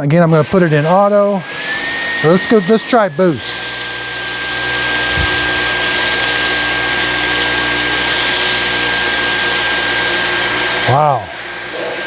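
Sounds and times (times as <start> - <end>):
vacuum cleaner motor whine: 0.0 - 12.0.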